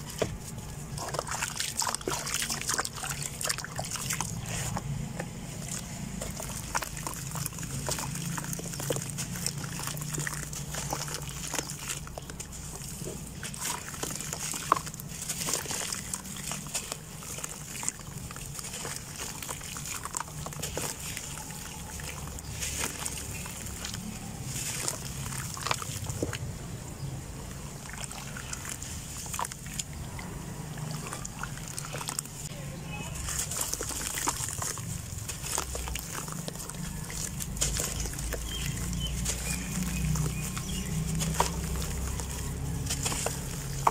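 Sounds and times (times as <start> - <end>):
wet crackles of dirt breaking: 0.0 - 26.4, 33.2 - 43.9
low steady hum: 0.0 - 43.9
muddy water sloshing: 0.0 - 43.9.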